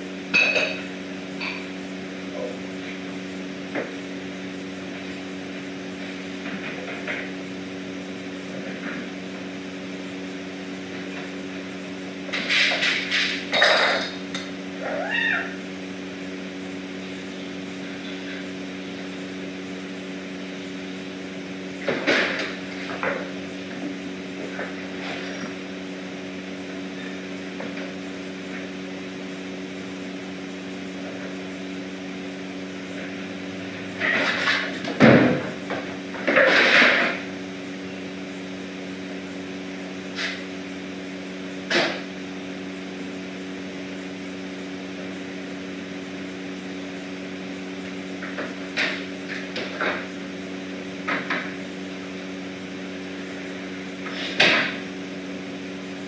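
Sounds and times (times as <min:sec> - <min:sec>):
machine hum: 0:00.0 - 0:56.0.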